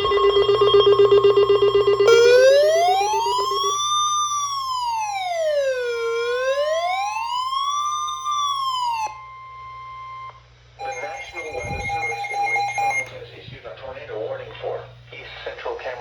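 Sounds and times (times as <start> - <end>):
rising and falling electronic wail: 0.0 - 13.1
steady high tone: 0.0 - 13.4.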